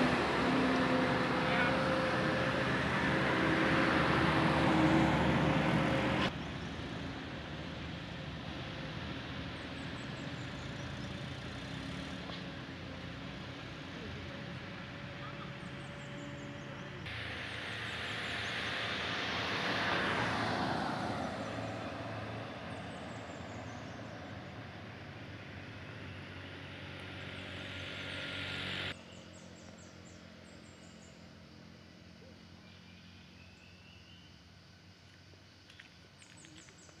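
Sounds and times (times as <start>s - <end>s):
vehicle engine passing by: 0.0s - 34.3s
steady engine hum: 0.0s - 37.0s.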